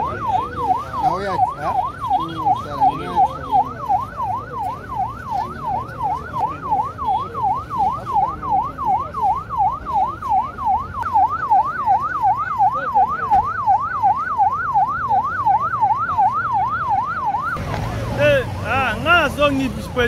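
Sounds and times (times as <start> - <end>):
ambulance siren yelping: 0.0 - 20.0.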